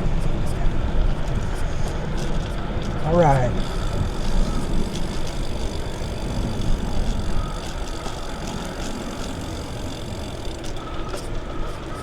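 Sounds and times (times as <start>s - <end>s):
bicycle rolling noise: 0.0s - 12.0s
wind buffeting microphone: 0.0s - 12.0s.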